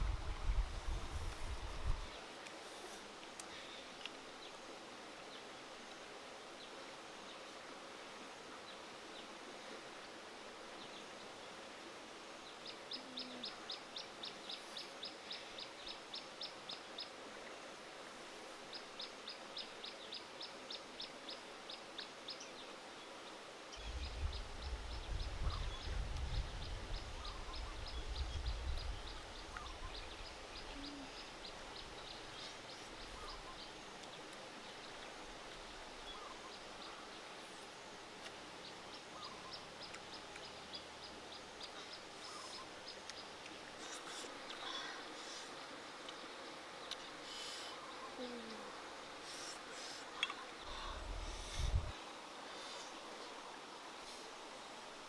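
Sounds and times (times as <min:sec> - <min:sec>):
faint outdoor hiss: 0:00.0 - 0:55.0.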